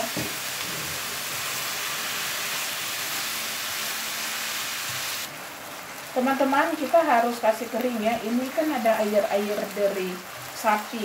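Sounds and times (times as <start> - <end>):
beef and onions sizzling in a wok: 0.0 - 11.0.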